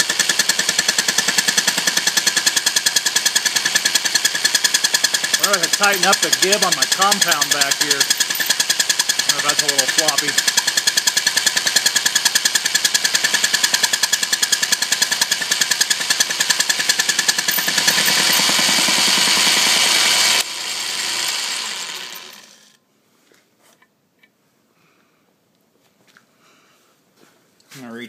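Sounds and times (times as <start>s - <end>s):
lathe tool striking work: 0.0s - 22.7s
lathe running: 0.0s - 22.8s.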